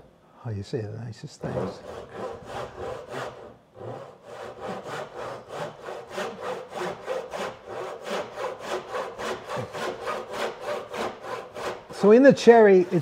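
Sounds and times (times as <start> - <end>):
hand saw cutting wood: 1.4 - 13.0.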